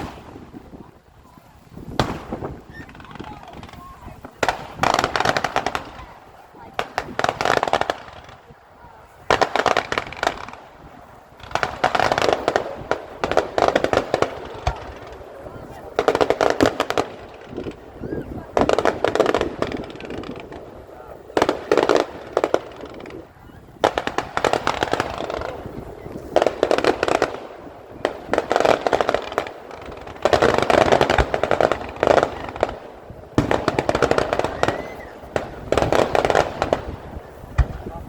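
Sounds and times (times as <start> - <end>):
fireworks crackling: 0.0 - 38.0.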